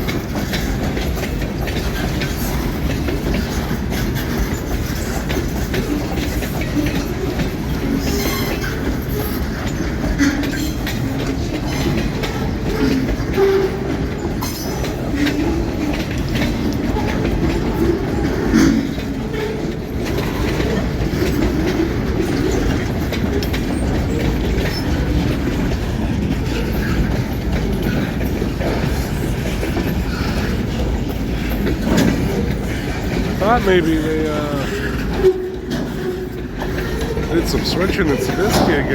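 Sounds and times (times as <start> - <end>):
freight train cars rumbling: 0.0 - 38.9
wheels clattering on rails: 0.0 - 38.9.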